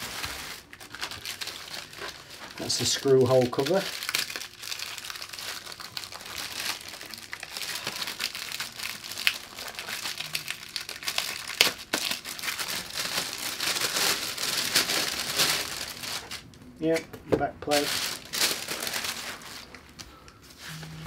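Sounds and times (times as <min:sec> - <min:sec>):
packaging wrap crinkling: 0:00.0 - 0:17.0, 0:17.7 - 0:20.8.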